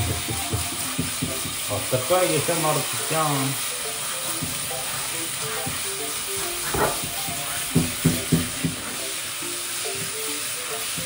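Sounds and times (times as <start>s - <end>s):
light background music: 0.0s - 11.0s
shower head spraying water: 0.0s - 11.0s.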